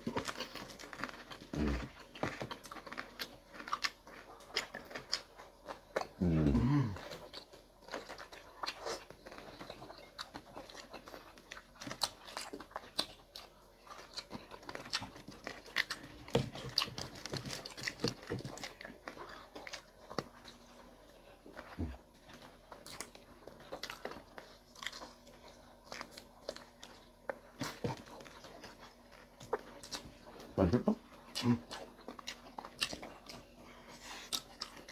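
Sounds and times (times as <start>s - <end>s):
people chewing and crunching food: 0.0s - 34.9s.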